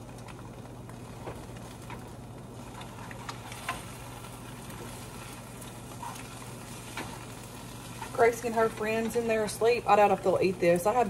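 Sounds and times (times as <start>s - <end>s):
eggs sizzling in a frying pan: 0.0s - 11.0s.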